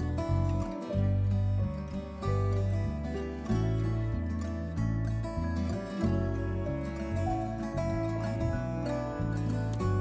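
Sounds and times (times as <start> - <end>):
plucked-string music with bass: 0.0 - 10.0.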